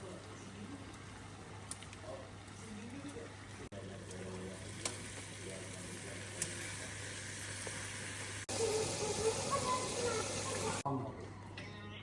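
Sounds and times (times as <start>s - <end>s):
food sizzling in hot oil: 0.0s - 10.8s.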